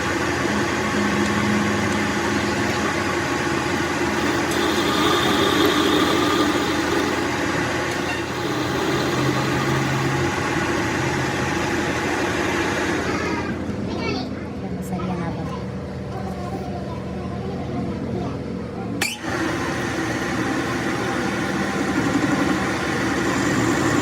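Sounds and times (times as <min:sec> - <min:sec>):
workshop machine humming: 0:00.0 - 0:24.0.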